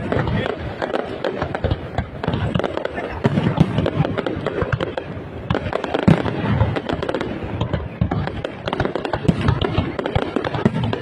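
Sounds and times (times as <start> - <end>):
fireworks pops and crackles: 0.0 - 11.0
loud fireworks booms: 0.0 - 11.0.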